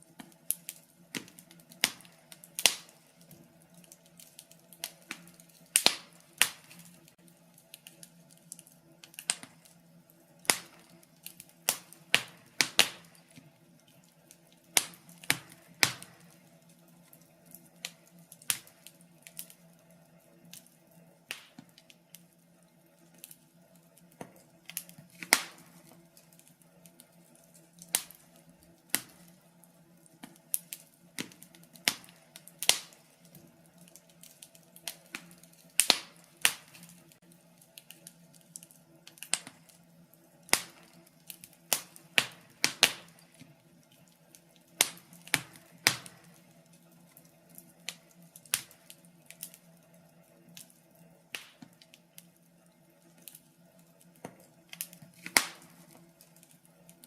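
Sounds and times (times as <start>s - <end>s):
faint steady hum: 0.0s - 57.0s
wood fire crackling and popping: 0.0s - 57.0s.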